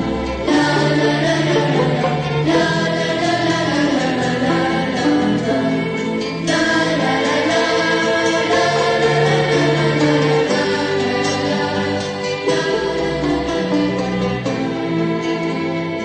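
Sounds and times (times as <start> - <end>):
voices chanting long held notes: 0.0 - 16.0.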